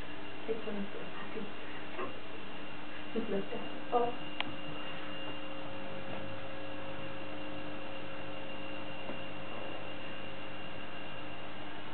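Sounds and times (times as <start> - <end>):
electrical hum: 0.0 - 11.9.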